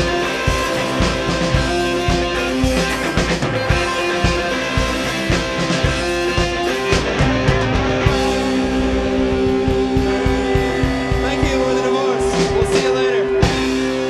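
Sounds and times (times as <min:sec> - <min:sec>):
guitars holding sustained notes: 0:00.0 - 0:14.0.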